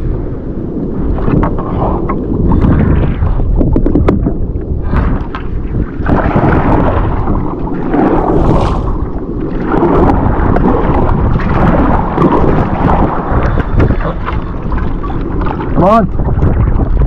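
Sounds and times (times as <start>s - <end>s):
water lapping against kayak hull: 0.0s - 17.0s
wind buffeting microphone: 0.0s - 17.0s.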